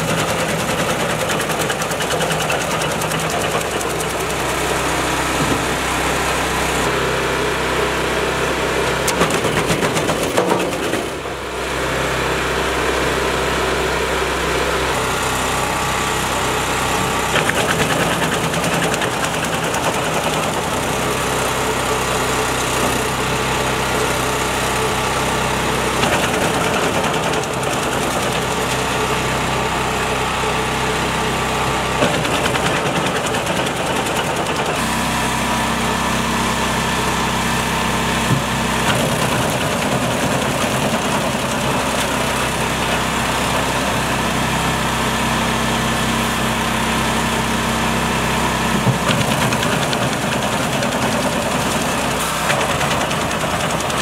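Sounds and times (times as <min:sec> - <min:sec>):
wood chipper engine running: 0:00.0 - 0:54.0.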